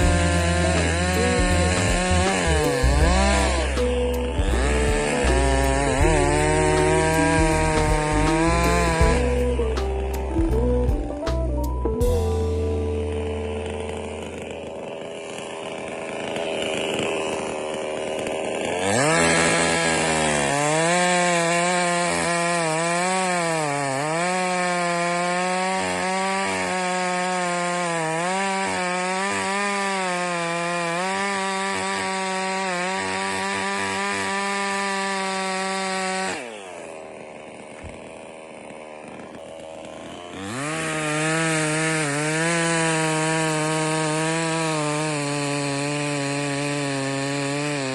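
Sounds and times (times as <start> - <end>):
chainsaw revving and cutting wood: 0.0 - 47.9.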